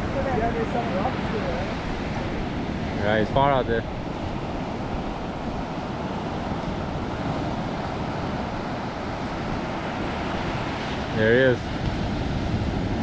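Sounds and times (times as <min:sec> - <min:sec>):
surf on a beach: 0:00.0 - 0:13.0
wind buffeting microphone: 0:00.0 - 0:13.0.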